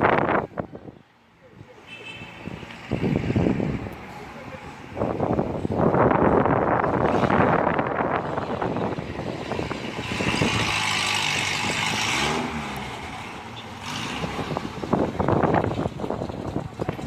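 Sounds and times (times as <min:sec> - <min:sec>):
wind buffeting microphone: 0:00.0 - 0:01.0, 0:02.4 - 0:04.1, 0:04.8 - 0:17.0.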